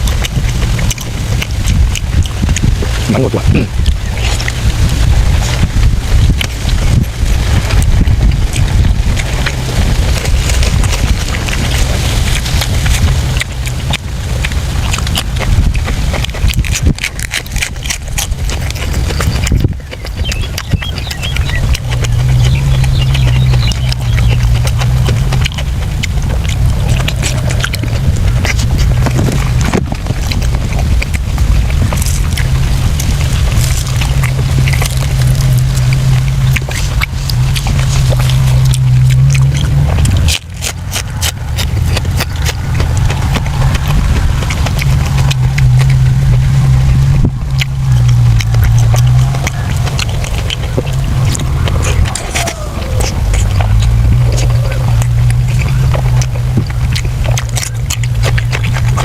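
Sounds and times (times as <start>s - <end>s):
low rumble: 0.0s - 59.0s
person chewing and lip-smacking: 0.0s - 59.0s
steady low hum: 0.0s - 59.0s.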